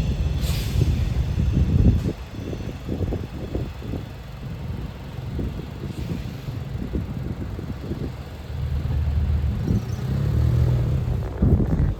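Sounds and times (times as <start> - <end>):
low vehicle rumble: 0.0 - 11.9.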